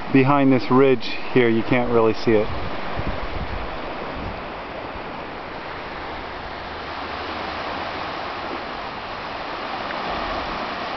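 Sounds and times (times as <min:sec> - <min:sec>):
surf rushing: 0:00.0 - 0:10.9
wind: 0:00.0 - 0:10.9.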